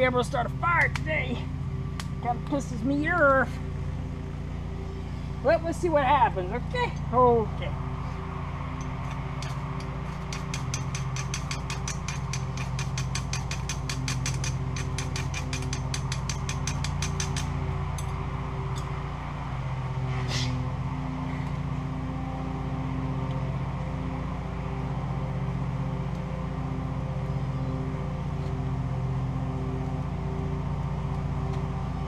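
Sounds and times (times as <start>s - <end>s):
low motor drone: 0.0s - 32.0s.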